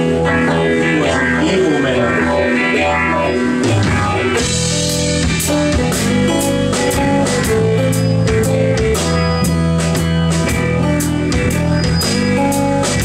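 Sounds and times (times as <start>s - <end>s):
drums striking sharply: 0.0s - 13.0s
held guitar notes: 0.0s - 13.0s
rock band playing: 0.0s - 13.0s.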